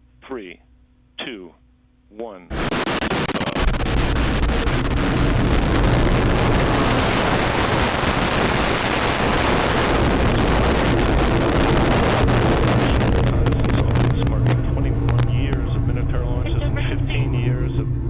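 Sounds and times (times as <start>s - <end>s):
crackling rocket motor roar: 2.5s - 18.0s.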